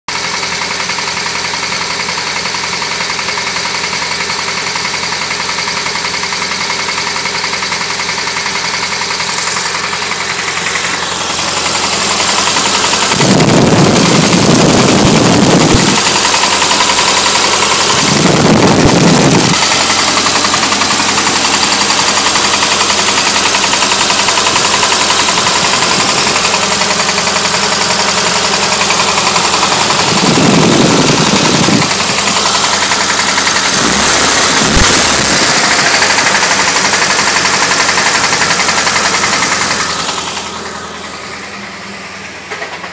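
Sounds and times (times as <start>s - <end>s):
engine running with rod knock: 0.1s - 42.9s.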